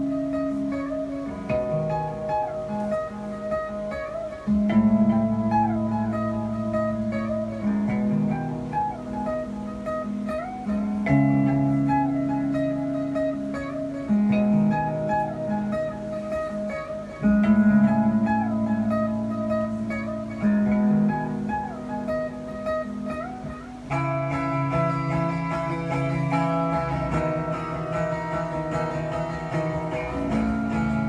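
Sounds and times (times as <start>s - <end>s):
guitar background music: 0.0s - 31.0s.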